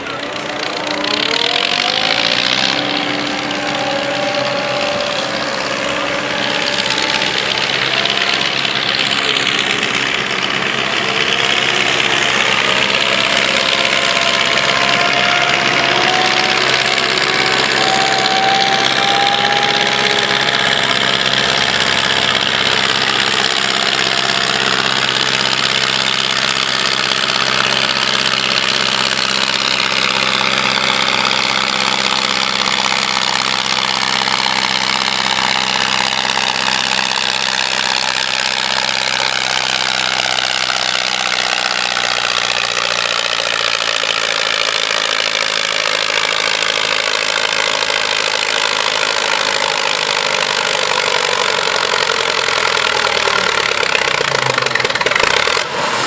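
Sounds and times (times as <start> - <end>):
diesel tractor engine straining: 0.0 - 56.0.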